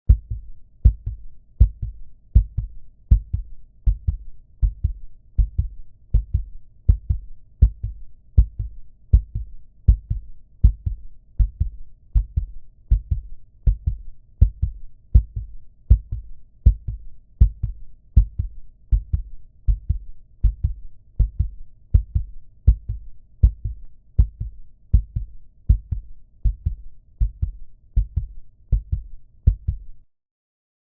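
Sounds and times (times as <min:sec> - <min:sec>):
heartbeat double thump: 0:00.1 - 0:29.9.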